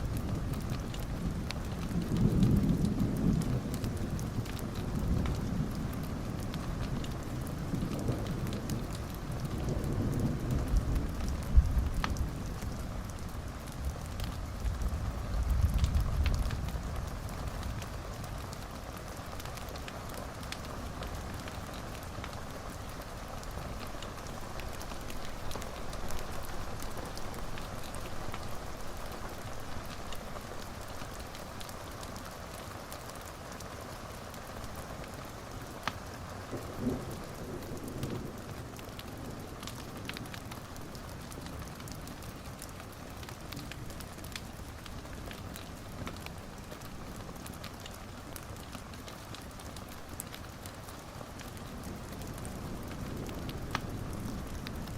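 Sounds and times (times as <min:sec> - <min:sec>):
steady rain: 0:00.0 - 0:54.9
wood fire crackling: 0:00.0 - 0:54.9.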